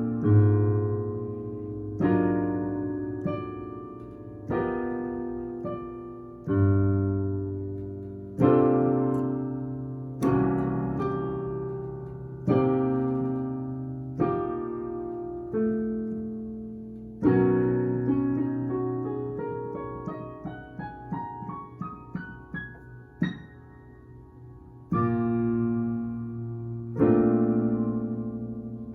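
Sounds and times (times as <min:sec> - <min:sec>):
piano playing slow chords: 0:00.0 - 0:28.9.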